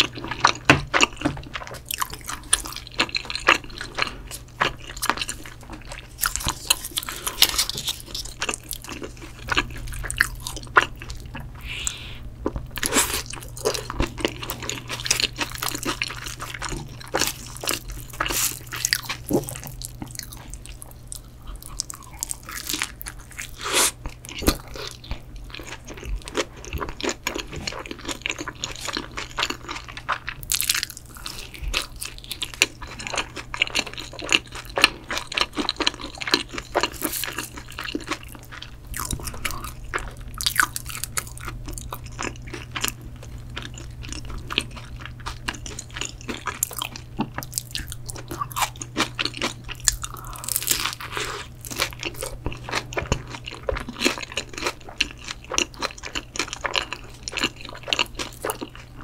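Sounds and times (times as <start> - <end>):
crunchy chewing: 0.0 - 59.0
steady low hum: 0.0 - 59.0.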